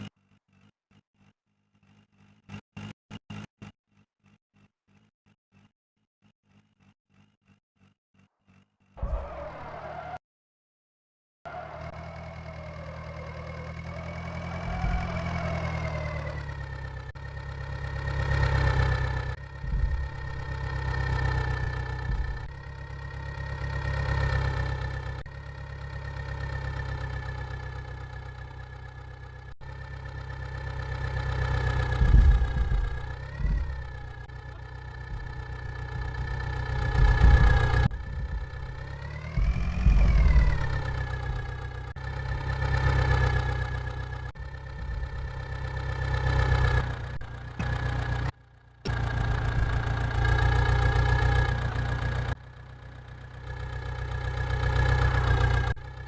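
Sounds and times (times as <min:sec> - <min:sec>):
vehicle engine revving: 0:07.8 - 0:10.2, 0:11.5 - 0:56.0.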